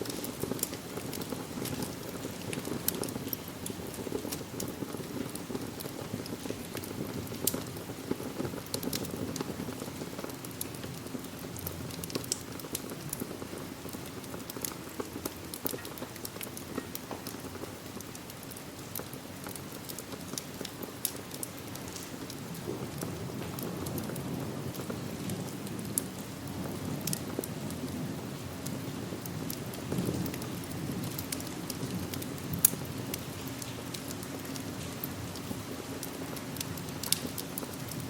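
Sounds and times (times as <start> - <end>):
steady rain: 0.0 - 38.0
wood fire crackling and popping: 0.0 - 38.0.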